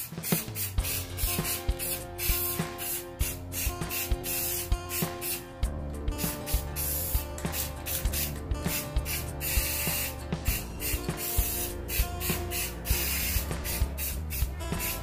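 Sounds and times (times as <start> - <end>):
background music with beat: 0.0 - 15.0
spray paint can hissing: 0.0 - 15.0.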